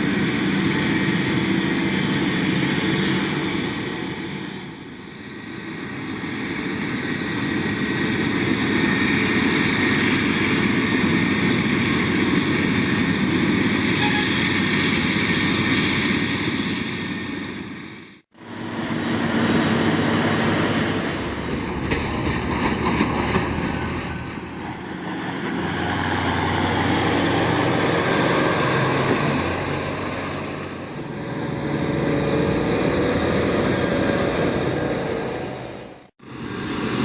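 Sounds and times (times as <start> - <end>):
heavy diesel farm machinery: 0.0 - 37.0.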